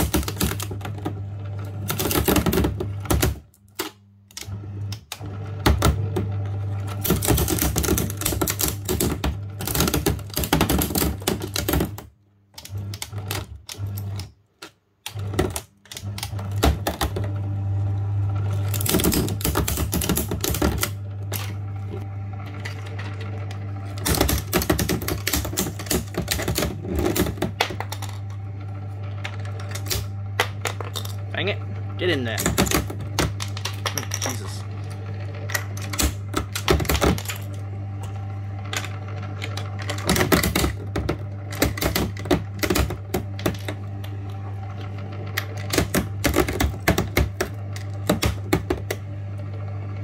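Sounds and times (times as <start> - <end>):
paper shredder motor hum: 0.0 - 50.0
shredder cutters crackling: 0.0 - 50.0.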